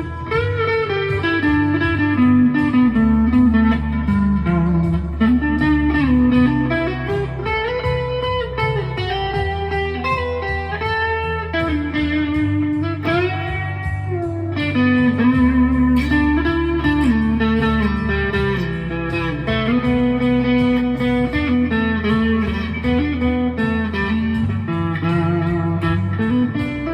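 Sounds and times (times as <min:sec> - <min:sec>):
overdriven electric guitar notes: 0:00.0 - 0:26.9.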